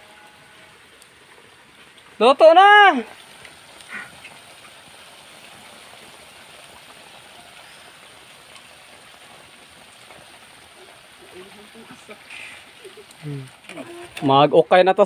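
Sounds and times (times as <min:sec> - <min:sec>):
food sizzling in a wok: 0:00.0 - 0:14.8.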